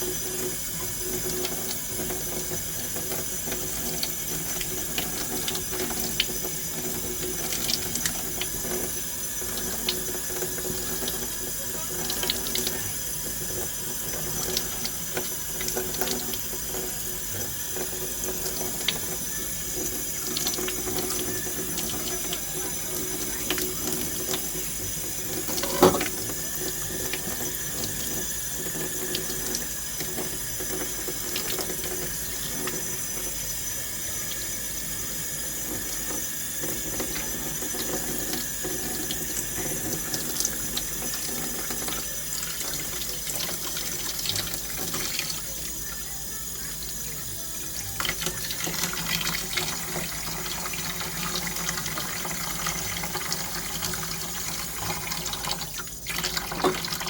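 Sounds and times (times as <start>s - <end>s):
tap water running into sink: 0.0s - 57.0s.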